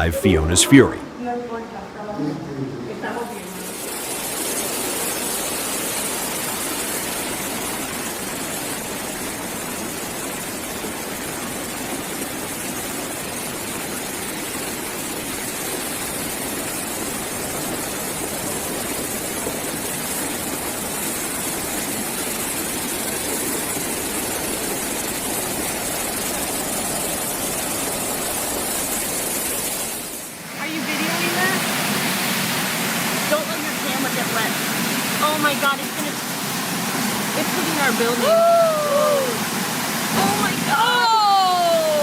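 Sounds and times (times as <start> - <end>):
floodwater rushing in river: 3.4 - 42.0.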